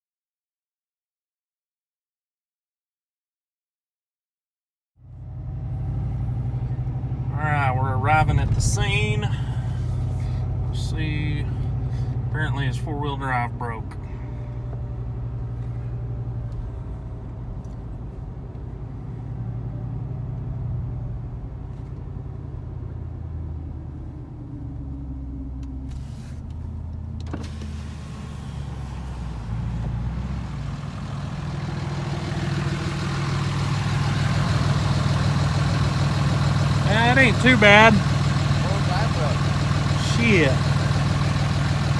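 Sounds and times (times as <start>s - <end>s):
truck engine running: 5.0s - 41.9s.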